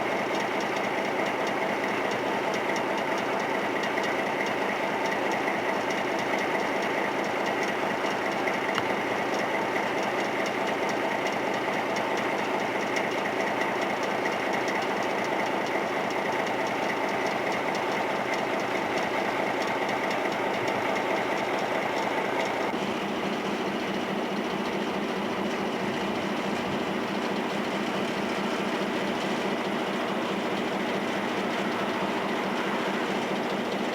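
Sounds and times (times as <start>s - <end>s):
train engine: 0.0s - 33.9s
wheels clattering on rails: 0.0s - 33.9s.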